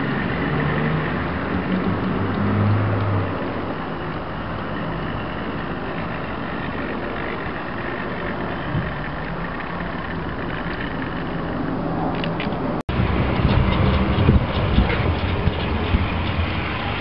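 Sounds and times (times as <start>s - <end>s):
model train motor and wheels: 0.0s - 17.0s.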